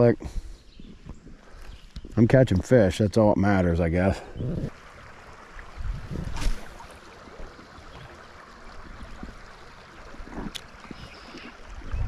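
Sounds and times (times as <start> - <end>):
river water rippling: 0.0 - 12.0.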